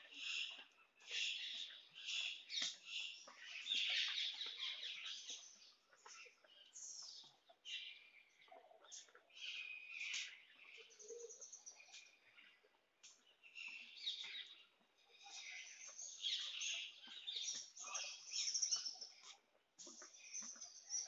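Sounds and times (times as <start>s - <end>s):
many birds chirping: 0.0s - 21.0s.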